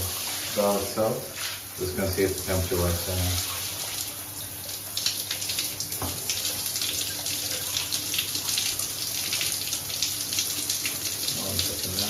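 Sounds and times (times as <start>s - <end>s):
shower water spraying: 0.0s - 12.0s.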